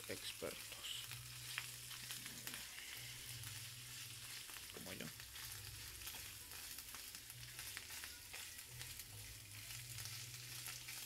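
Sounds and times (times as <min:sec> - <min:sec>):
sausage sizzling in oil: 0:00.0 - 0:11.0
utensil stirring pan: 0:00.0 - 0:11.0.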